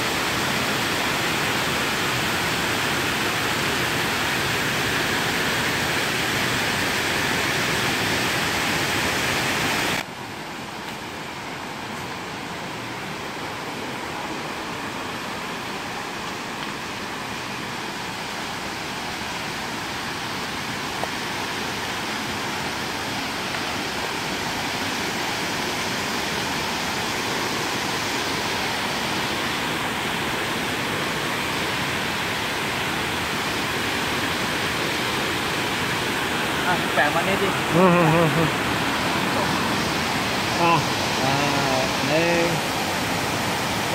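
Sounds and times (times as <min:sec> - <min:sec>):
water rushing over waterfall: 0:00.0 - 0:43.9.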